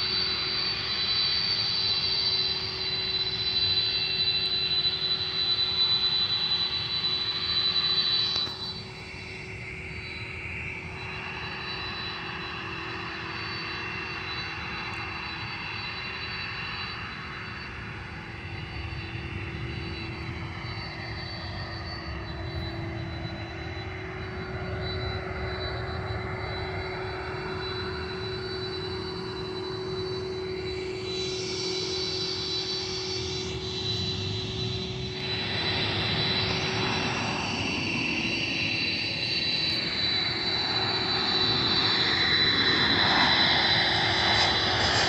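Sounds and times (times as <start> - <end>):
airplane engines running: 0.0 - 45.0.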